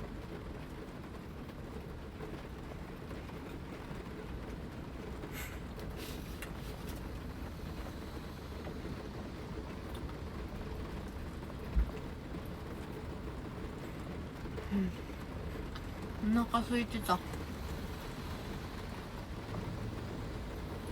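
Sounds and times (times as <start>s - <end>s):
heavy rain drumming on van roof: 0.0s - 20.9s.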